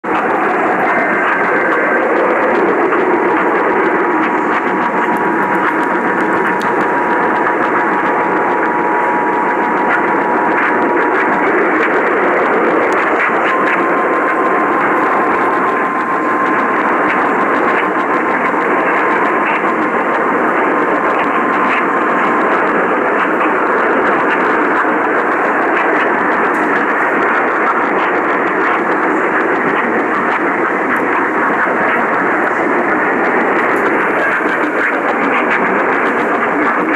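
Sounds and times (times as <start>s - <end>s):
radio static hiss: 0.0s - 36.9s.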